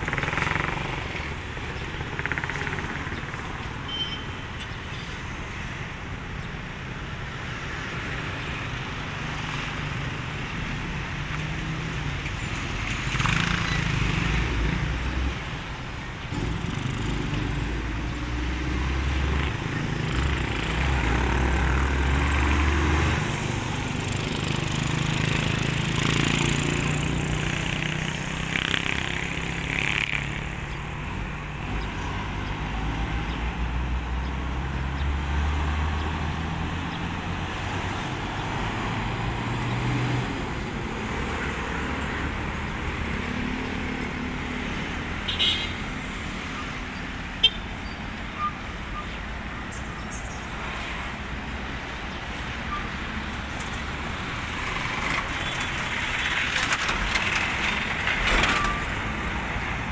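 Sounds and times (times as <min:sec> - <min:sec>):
diesel engines droning: 0:00.0 - 0:59.9
trucks and cars passing: 0:00.0 - 0:59.9.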